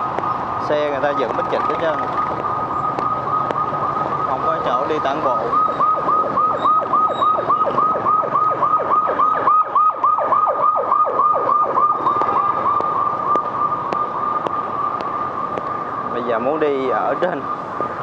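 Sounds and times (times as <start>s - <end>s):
emergency siren yelping: 0.0s - 18.0s
street traffic: 0.0s - 18.0s.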